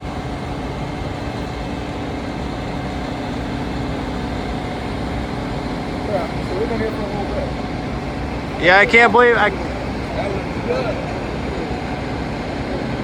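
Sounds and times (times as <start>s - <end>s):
constant low hum: 0.0s - 13.0s
heavy machinery and traffic drone: 0.0s - 13.0s.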